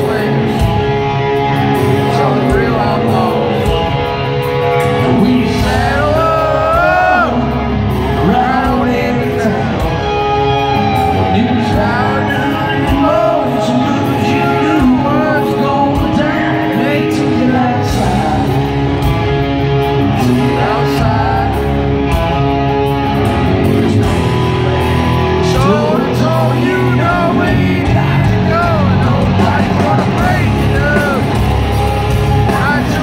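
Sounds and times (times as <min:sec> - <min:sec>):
drums: 0:00.0 - 0:33.0
electric guitars: 0:00.0 - 0:33.0
man singing: 0:00.0 - 0:33.0.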